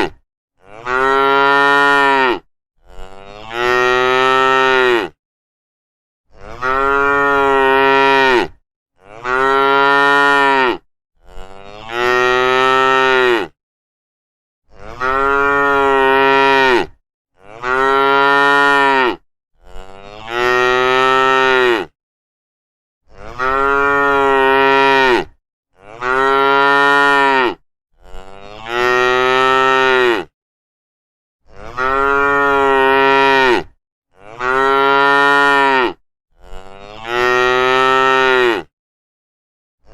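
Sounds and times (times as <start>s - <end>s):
cattle mooing: 0.0s - 5.2s, 6.4s - 13.5s, 14.8s - 21.9s, 23.2s - 30.3s, 31.6s - 38.7s.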